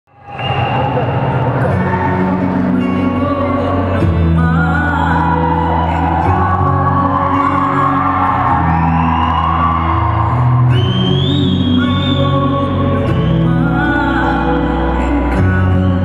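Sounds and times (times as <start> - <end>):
dance music: 0.3 - 16.0
person singing: 1.1 - 16.0.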